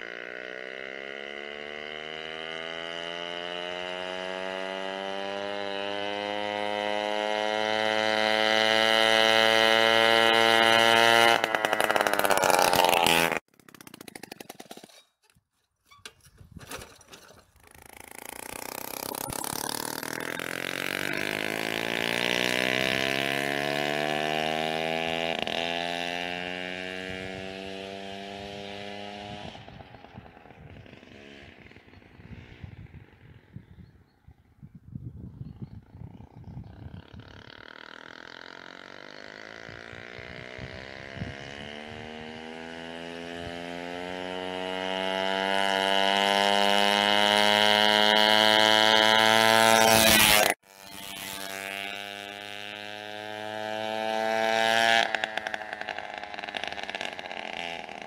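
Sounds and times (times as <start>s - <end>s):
moped two-stroke engine: 0.0s - 33.8s, 35.8s - 58.0s.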